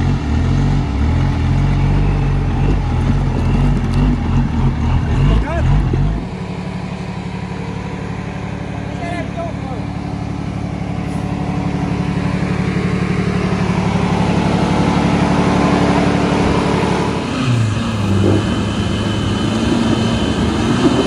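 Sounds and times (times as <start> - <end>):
diesel engine running and revving: 0.0 - 21.0.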